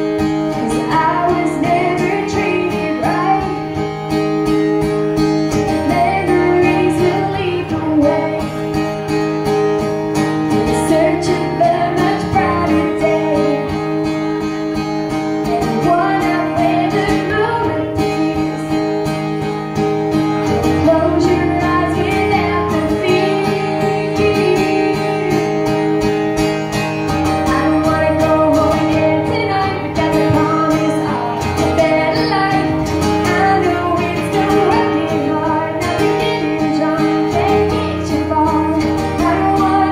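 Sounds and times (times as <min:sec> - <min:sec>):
woman singing: 0:00.0 - 0:03.9, 0:05.6 - 0:08.8, 0:10.5 - 0:14.0, 0:15.4 - 0:19.1, 0:20.4 - 0:26.0, 0:27.3 - 0:39.9
acoustic guitar: 0:00.0 - 0:39.9.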